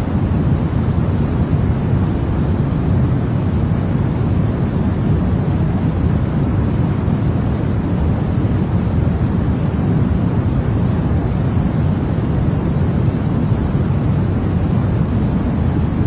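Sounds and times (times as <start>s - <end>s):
white noise: 0.0s - 16.0s.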